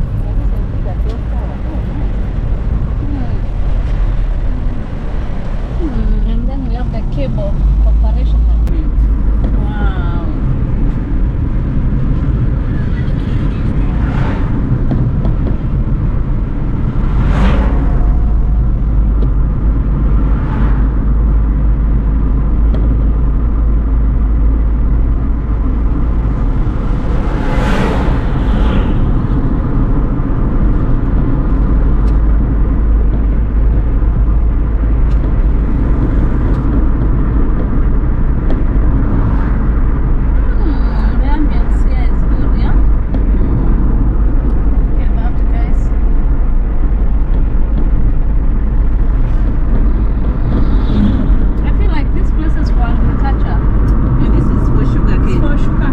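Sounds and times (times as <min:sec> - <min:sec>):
car road and engine rumble: 0:00.0 - 0:55.9
passing vehicle whooshes: 0:00.0 - 0:55.9.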